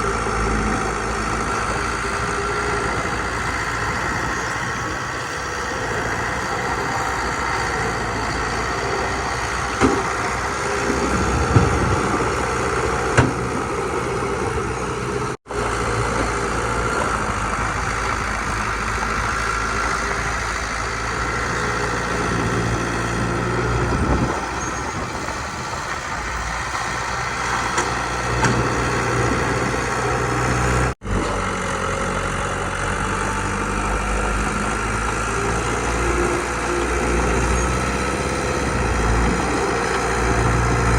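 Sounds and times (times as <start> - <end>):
heavy machinery diesel engines: 0.0 - 40.9.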